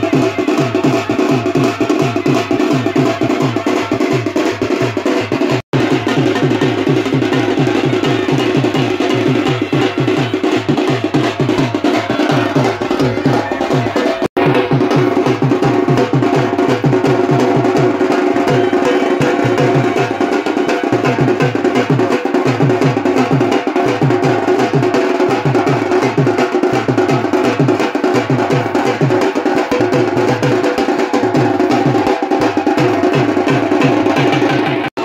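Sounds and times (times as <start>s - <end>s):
music with fast drum beat: 0.0s - 35.0s.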